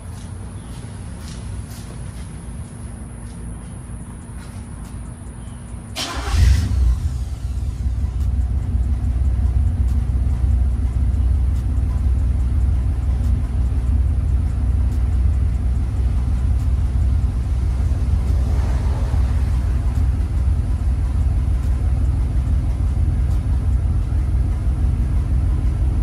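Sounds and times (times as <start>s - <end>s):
car engine starting and idling: 0.0s - 26.0s.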